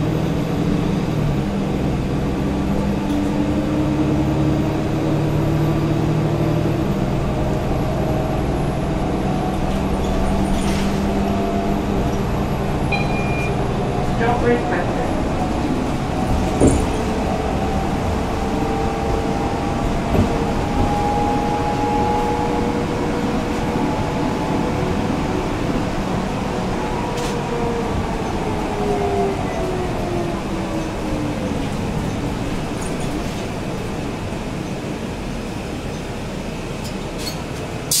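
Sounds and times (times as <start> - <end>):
bus diesel engine rumble: 0.0 - 38.0
road noise: 0.0 - 38.0.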